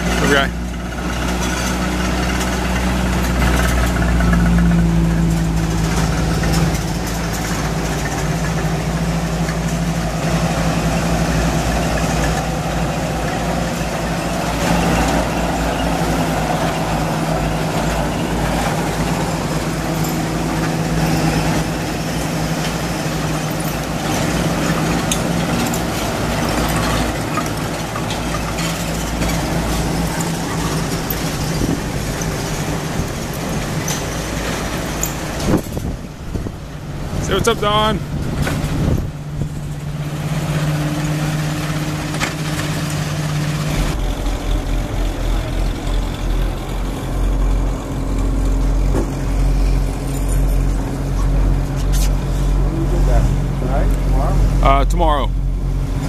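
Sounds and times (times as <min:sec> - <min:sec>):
vehicle engines driving past: 0:00.0 - 0:56.0.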